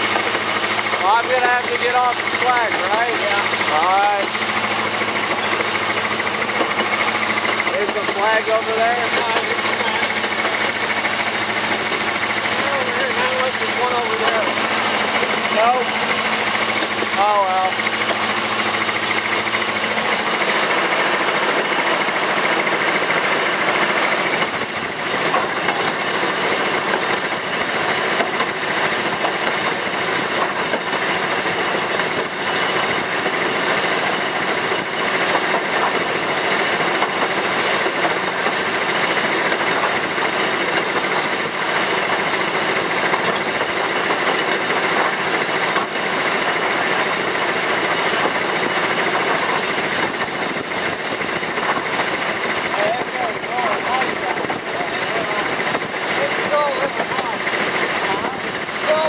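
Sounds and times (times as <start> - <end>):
diesel locomotive engine: 0.0 - 59.0
train wheels on rails: 0.0 - 59.0.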